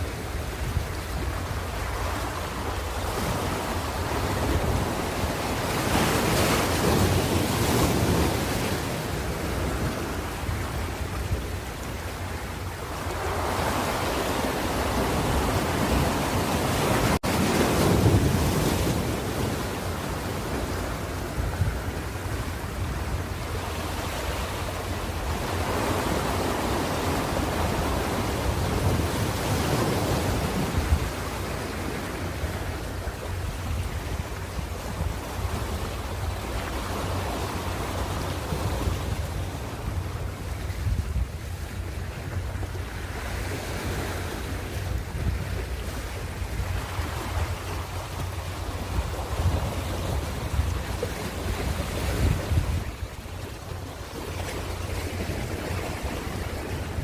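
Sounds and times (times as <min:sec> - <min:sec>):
ocean waves breaking on shore: 0:00.0 - 0:57.0
wind on microphone: 0:00.0 - 0:57.0.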